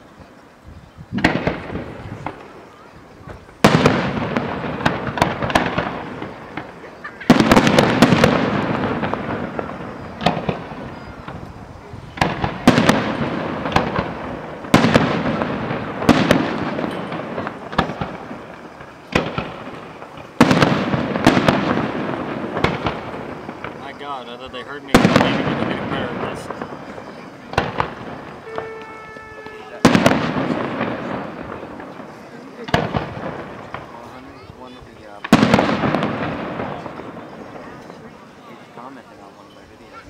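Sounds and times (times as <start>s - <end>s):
fireworks bursting with bangs: 0.0s - 40.0s
fireworks crackling: 0.0s - 40.0s.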